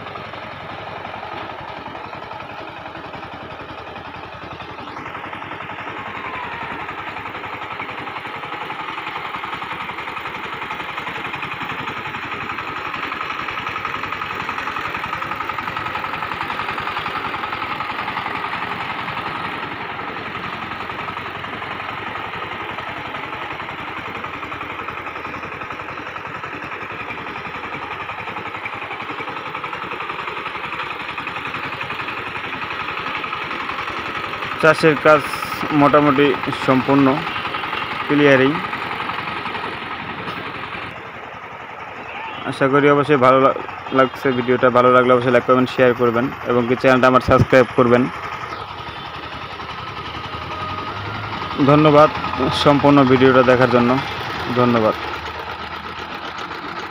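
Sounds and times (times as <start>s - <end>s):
diesel engine running under load: 0.0s - 56.9s.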